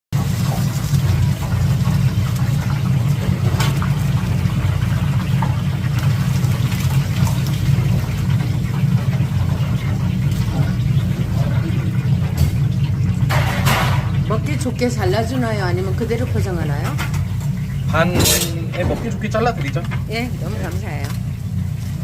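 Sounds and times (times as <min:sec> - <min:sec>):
oil sizzling and crackling: 0:00.1 - 0:22.0
low machine hum: 0:00.2 - 0:22.0.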